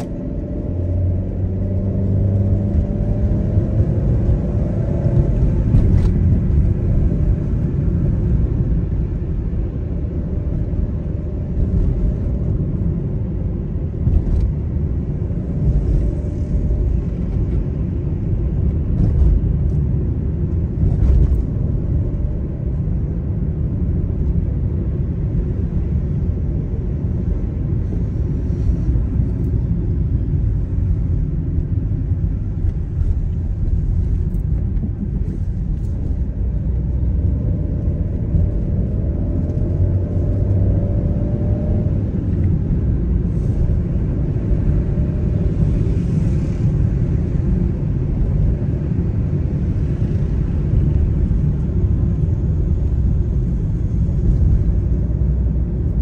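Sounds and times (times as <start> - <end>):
car interior road and engine noise: 0.0 - 56.0.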